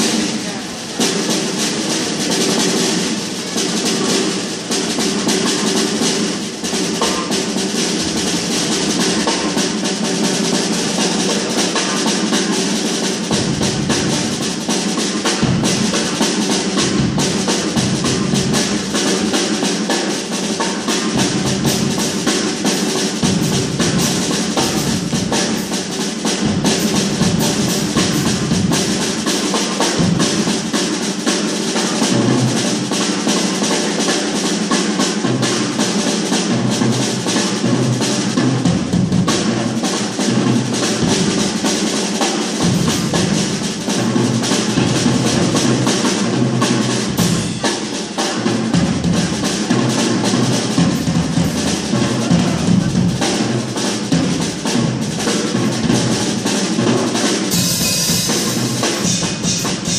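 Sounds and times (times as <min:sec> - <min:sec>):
drum kit fast strokes: 0:00.0 - 0:59.9.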